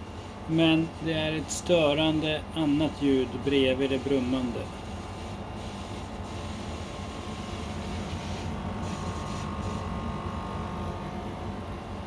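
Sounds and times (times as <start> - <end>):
air conditioner compressor humming: 0.0 - 12.0.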